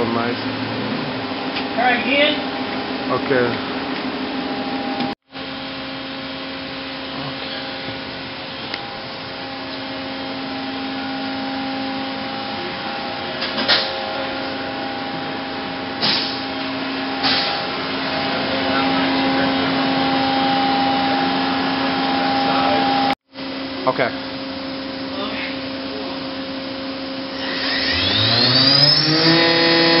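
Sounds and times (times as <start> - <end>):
machine hum with low whine: 0.0 - 30.0.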